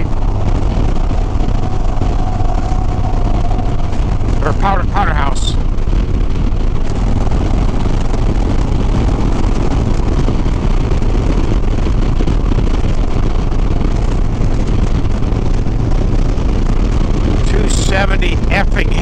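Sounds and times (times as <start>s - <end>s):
motorcycle engine cruising: 0.0s - 19.0s
wind rush on microphone: 0.0s - 19.0s.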